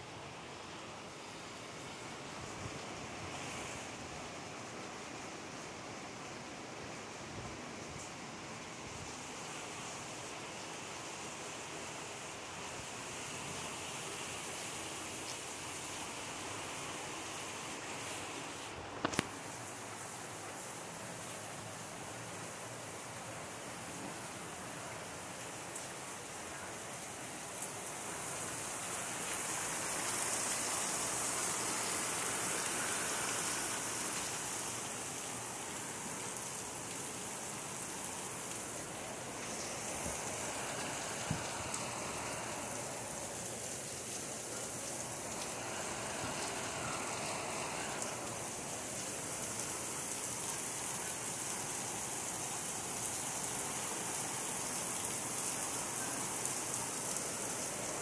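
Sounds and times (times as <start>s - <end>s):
heavy rain falling: 0.3s - 58.0s.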